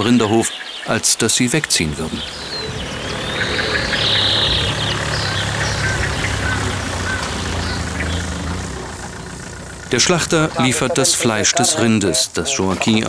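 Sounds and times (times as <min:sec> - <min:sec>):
van engine humming: 0:01.7 - 0:13.0.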